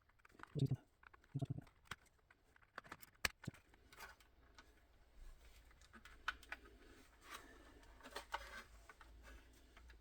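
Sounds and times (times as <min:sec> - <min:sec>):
faint clicks of small plastic parts: 0:00.0 - 0:10.0.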